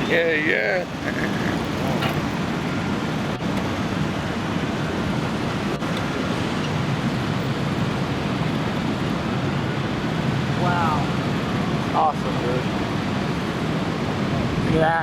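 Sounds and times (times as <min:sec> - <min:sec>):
jet engines rumbling overhead: 0:00.0 - 0:15.0.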